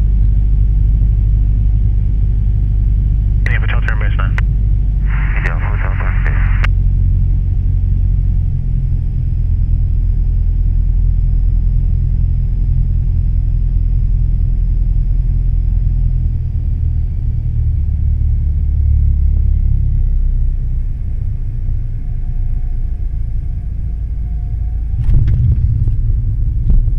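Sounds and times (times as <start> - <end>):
aircraft engine and propeller droning: 0.0 - 26.9.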